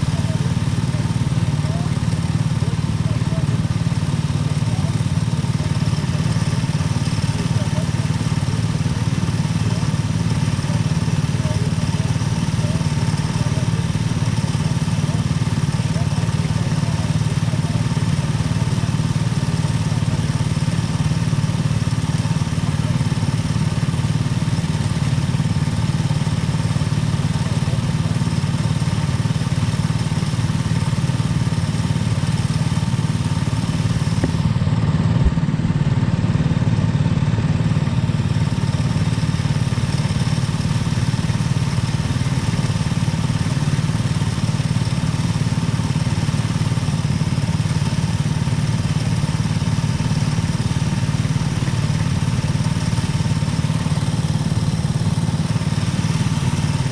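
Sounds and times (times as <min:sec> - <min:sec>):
go-kart engine running: 0:00.0 - 0:56.9.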